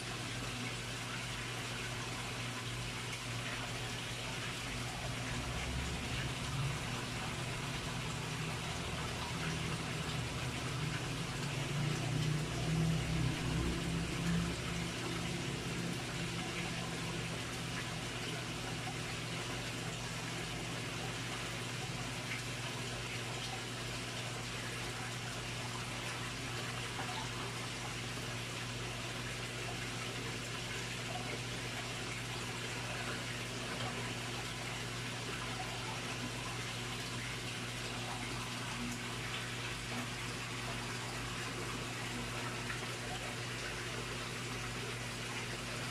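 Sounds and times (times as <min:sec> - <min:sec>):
constant low hum: 0:00.0 - 0:45.9
running water in a pond: 0:00.0 - 0:45.9.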